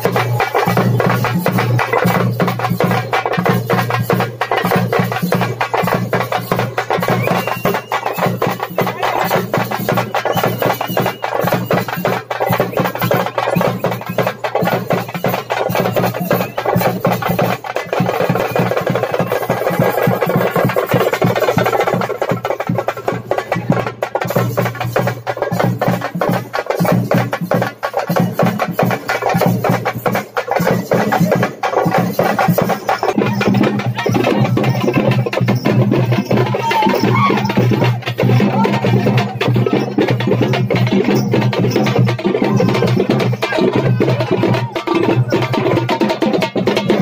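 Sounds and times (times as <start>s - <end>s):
drum-led dance music: 0.0s - 47.0s.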